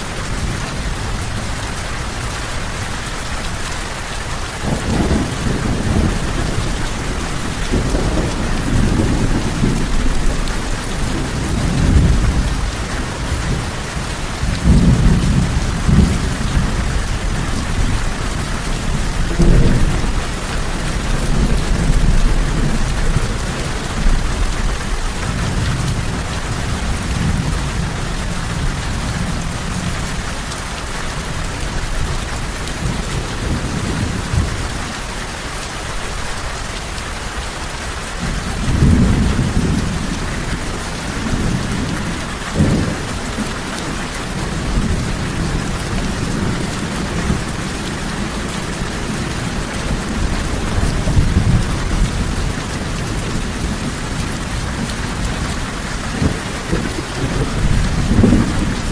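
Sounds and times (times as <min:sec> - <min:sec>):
heavy rain: 0:00.0 - 0:58.9
low rolling thunder: 0:04.5 - 0:35.0, 0:38.2 - 0:58.9.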